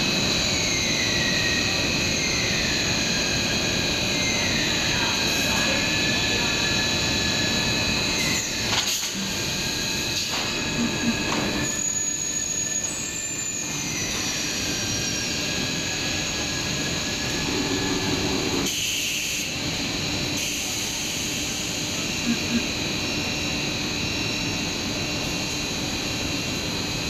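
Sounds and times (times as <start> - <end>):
machine din with high whines: 0.0 - 27.0.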